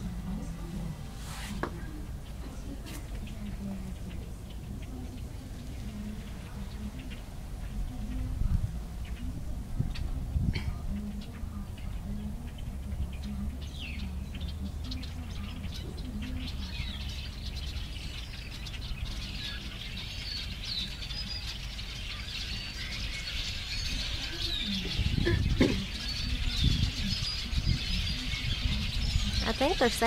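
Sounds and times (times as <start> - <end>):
birds chirping and calling: 0.0 - 30.0
steady low hum: 0.0 - 30.0.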